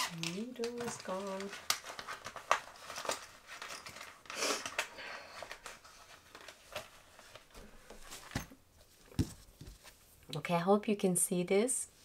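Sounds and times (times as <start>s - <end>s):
hands handling small objects: 0.0s - 9.9s
rustling: 0.0s - 10.2s.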